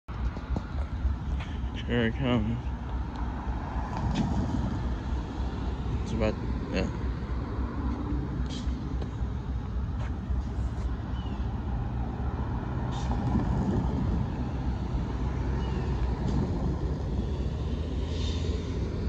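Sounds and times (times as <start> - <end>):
rumble of motor vehicles: 0.1 - 19.0.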